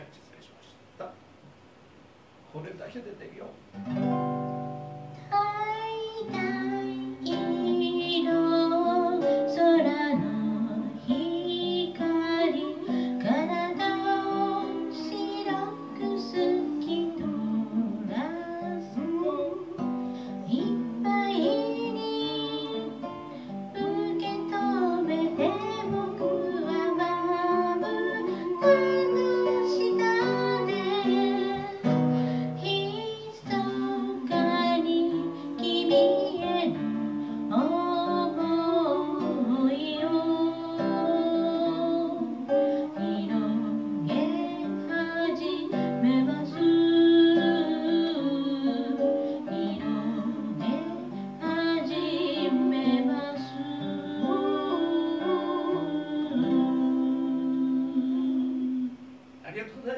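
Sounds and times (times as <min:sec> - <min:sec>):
acoustic guitar: 0:00.0 - 0:59.9
person singing into microphone: 0:05.2 - 0:59.2.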